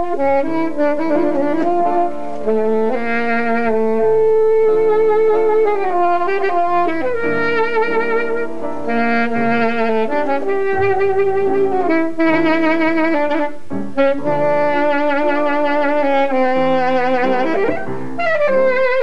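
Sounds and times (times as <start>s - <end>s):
saxophone slow melody: 0.0s - 19.0s
sustained keyboard chords: 0.0s - 19.0s.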